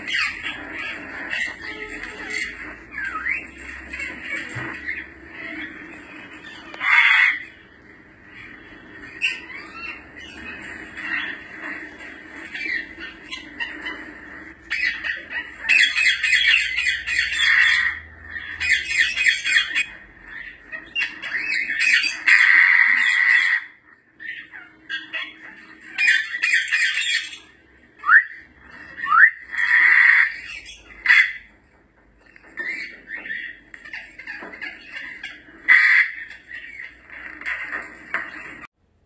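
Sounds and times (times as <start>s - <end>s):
parrot squawking: 0.0s - 38.7s.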